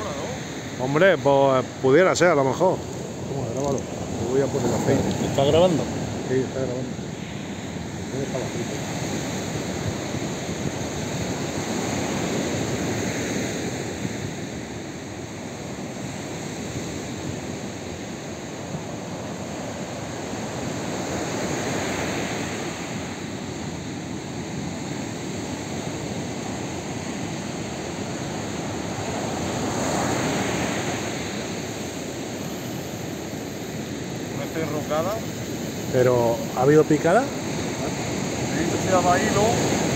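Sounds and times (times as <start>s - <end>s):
waves breaking on sandy beach: 0.0s - 39.9s.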